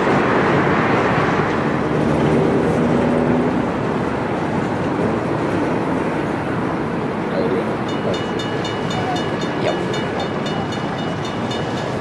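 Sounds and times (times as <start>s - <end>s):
wheel-on-rail noise: 0.0s - 12.0s.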